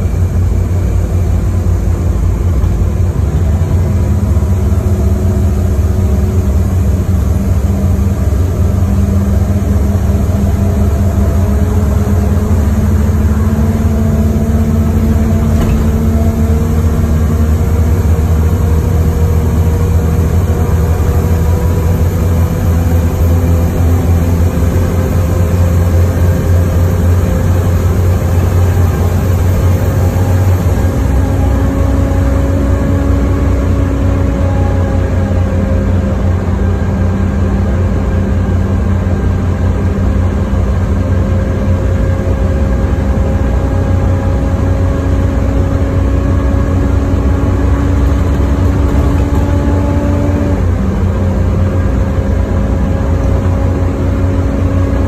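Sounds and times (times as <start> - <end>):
bus engine droning: 0.0 - 55.0
rising drivetrain whine: 0.0 - 55.0.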